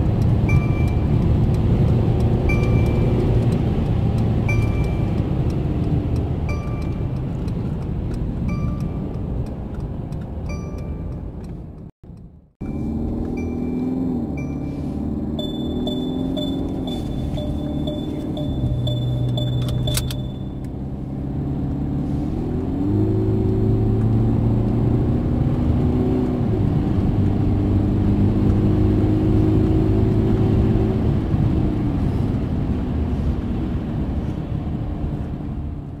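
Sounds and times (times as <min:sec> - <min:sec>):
diesel engine accelerating: 0:00.0 - 0:36.0
tyre and road noise: 0:00.0 - 0:36.0.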